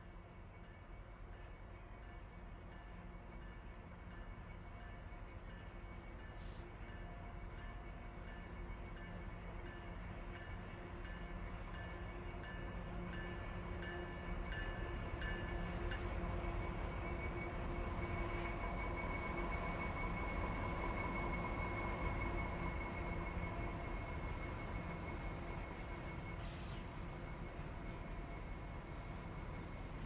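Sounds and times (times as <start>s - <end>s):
freight train rumble: 0.0s - 30.0s.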